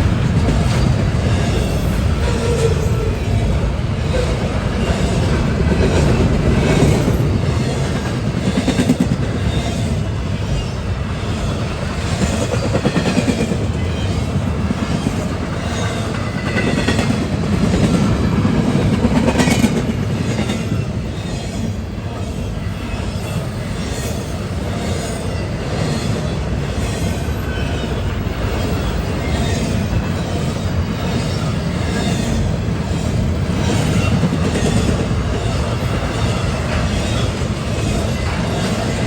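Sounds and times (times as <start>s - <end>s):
train wheels clacking over rails: 0.0s - 39.0s.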